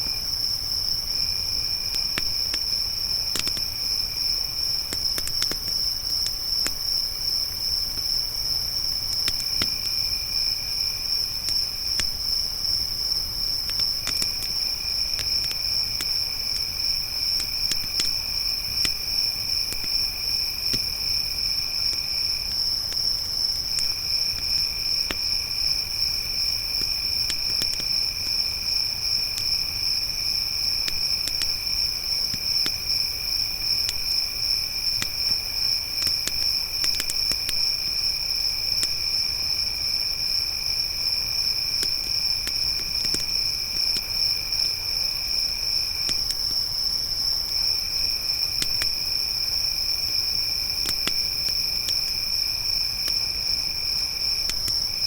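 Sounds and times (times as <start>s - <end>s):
high-pitched cricket trill: 0.0s - 55.0s
lower cricket trill: 0.0s - 55.0s
campfire crackling: 0.2s - 49.0s, 49.6s - 55.0s.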